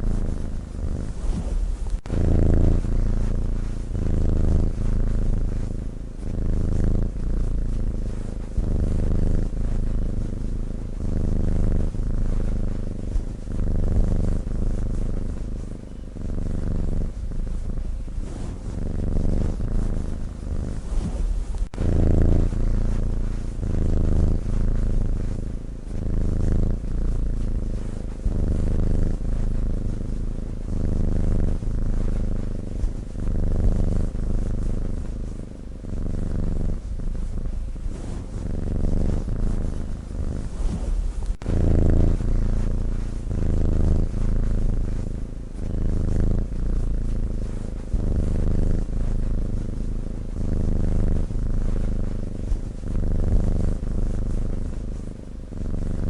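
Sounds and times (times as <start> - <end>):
cat purring snore: 0.0 - 56.0.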